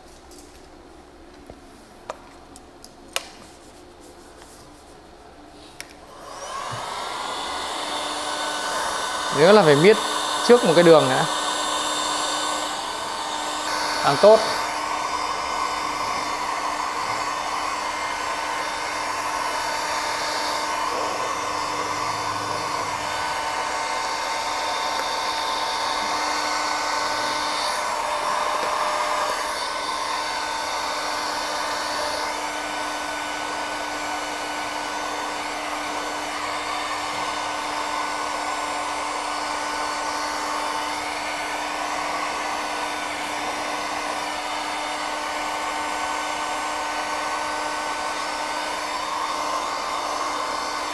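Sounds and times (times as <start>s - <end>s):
heat gun blowing with motor whine: 6.0s - 50.9s.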